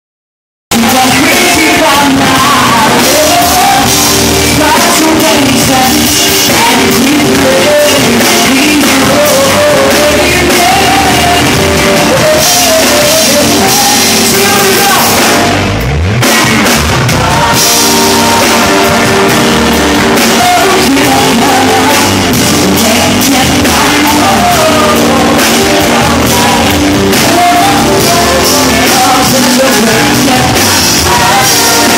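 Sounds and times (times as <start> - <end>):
live band playing drums and guitar: 0.7 - 31.9.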